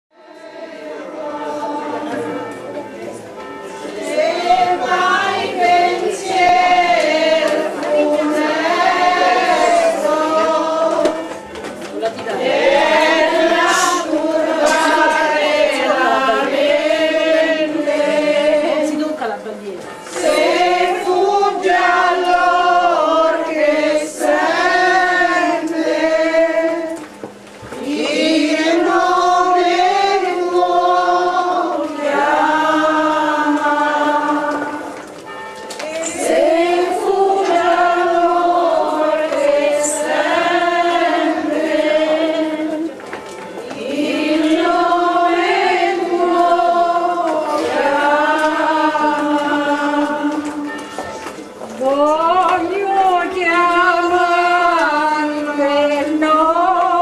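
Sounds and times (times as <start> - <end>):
women singing a hymn: 0.1 - 2.5, 3.6 - 57.0.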